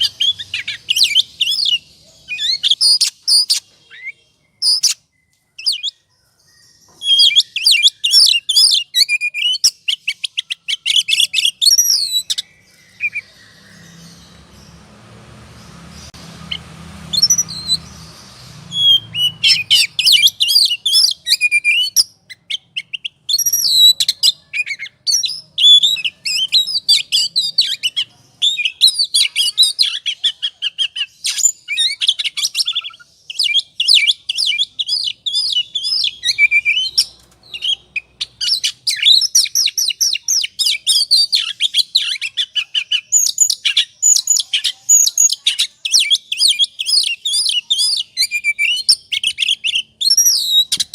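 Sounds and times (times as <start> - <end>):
songbird chirps trills and whistles: 0.0 - 50.9.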